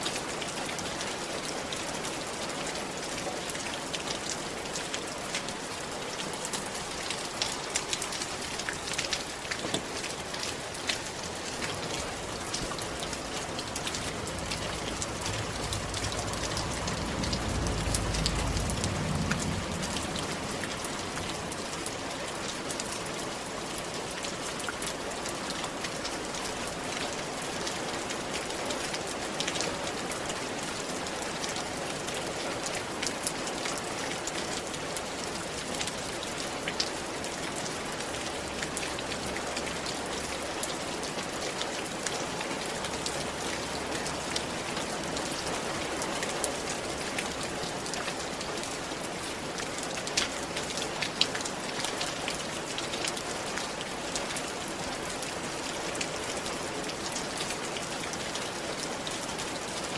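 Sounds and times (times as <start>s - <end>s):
rain on a roof: 0.0s - 59.9s.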